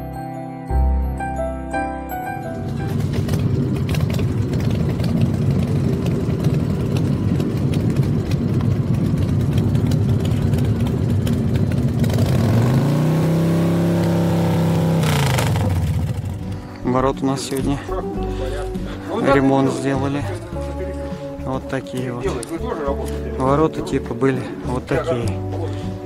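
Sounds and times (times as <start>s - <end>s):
car engine revving: 2.8s - 26.0s.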